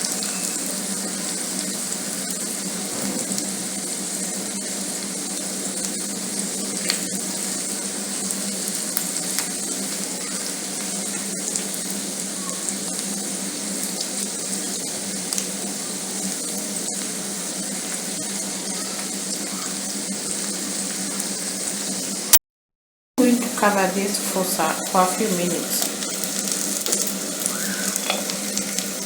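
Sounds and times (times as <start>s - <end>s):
batter frying in oil: 0.0s - 22.4s, 23.2s - 29.0s.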